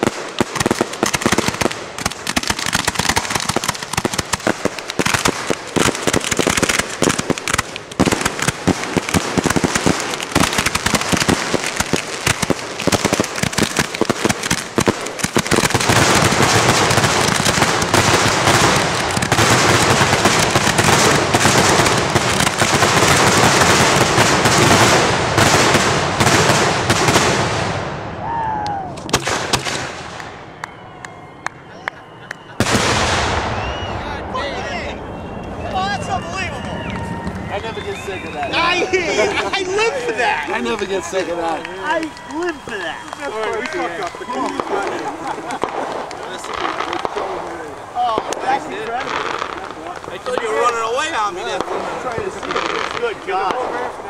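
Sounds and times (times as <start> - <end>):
fireworks launches and bursts: 0.0 - 30.6, 32.4 - 54.0
fireworks crackling: 0.0 - 54.0.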